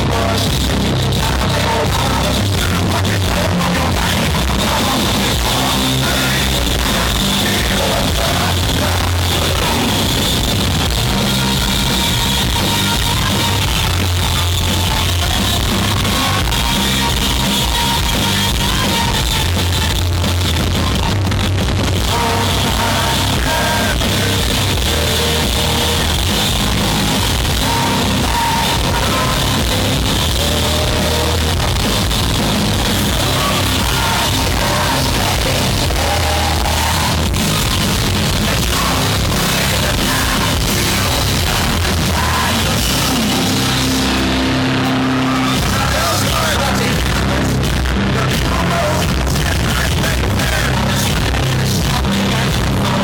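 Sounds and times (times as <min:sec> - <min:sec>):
person singing: 0:00.0 - 0:21.2, 0:22.0 - 0:53.0
distorted electric guitars: 0:00.0 - 0:53.0
drums: 0:00.0 - 0:53.0
hard rock band playing: 0:00.0 - 0:53.0.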